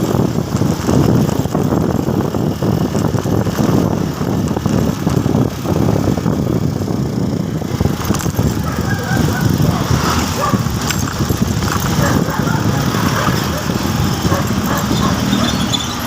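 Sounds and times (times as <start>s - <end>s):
motorcycle engine rumble: 0.0s - 16.0s.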